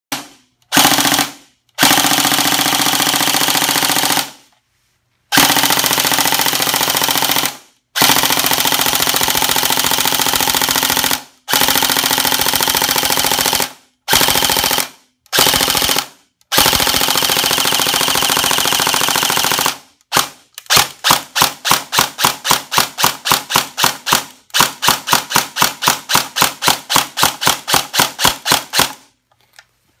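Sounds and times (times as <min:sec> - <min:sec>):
airsoft rifle firing: 0:00.1 - 0:04.5, 0:05.3 - 0:29.1.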